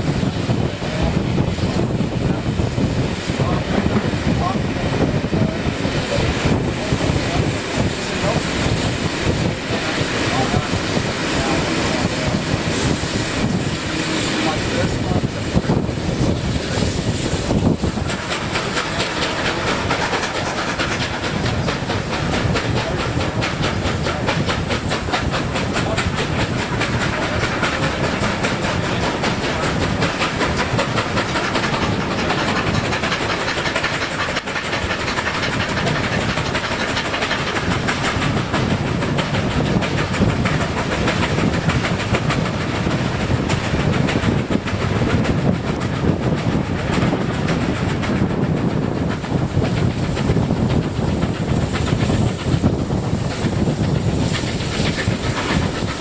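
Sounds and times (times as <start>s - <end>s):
train rumbling along rails: 0.0s - 56.0s.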